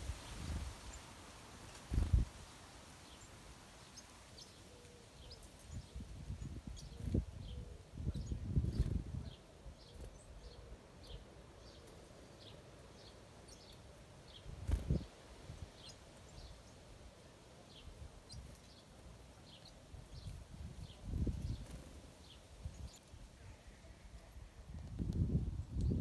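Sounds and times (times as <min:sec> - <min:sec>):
faint outdoor hiss: 0:00.0 - 0:26.0
small birds chirping: 0:00.0 - 0:26.0.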